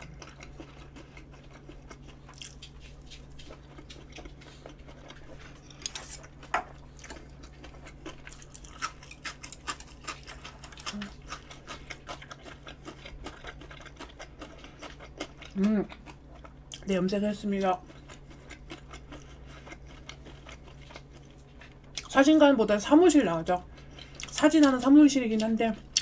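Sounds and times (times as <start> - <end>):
chewing: 0.0 - 16.9, 17.7 - 22.1, 23.7 - 26.0
low steady hum: 0.0 - 26.0.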